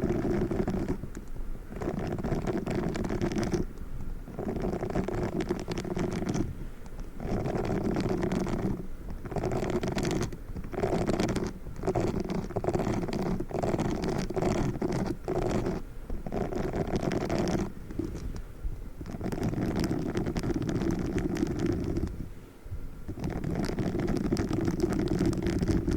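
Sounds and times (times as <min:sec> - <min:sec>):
sponge rubbed on microphone: 0:00.0 - 0:01.1, 0:01.7 - 0:03.7, 0:04.3 - 0:18.4, 0:19.0 - 0:22.3, 0:23.1 - 0:25.9.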